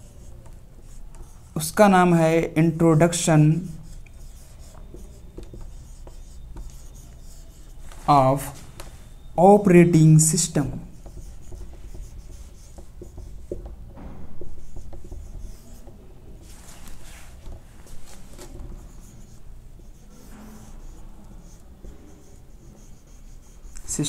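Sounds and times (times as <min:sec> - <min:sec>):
marker scratching on whiteboard: 0:00.0 - 0:24.0.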